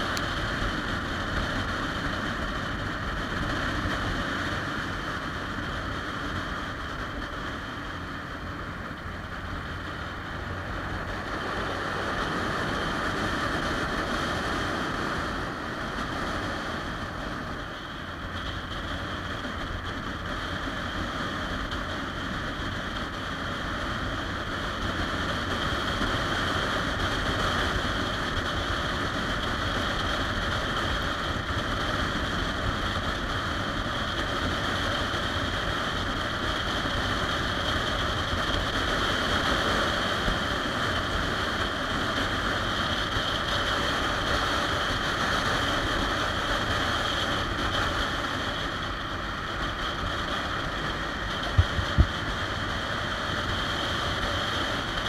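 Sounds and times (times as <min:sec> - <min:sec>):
motorcycle engine and road rumble: 0:00.0 - 0:55.0
wind rushing over microphone: 0:00.0 - 0:55.0.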